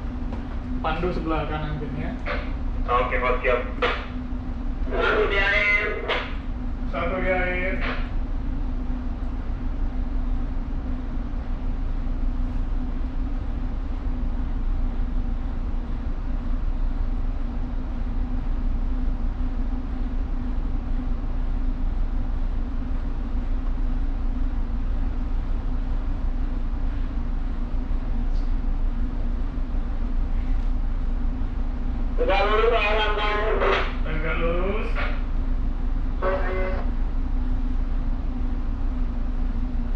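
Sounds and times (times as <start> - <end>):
constant hum: 0.0 - 39.9
ship engine rumble: 0.0 - 39.9.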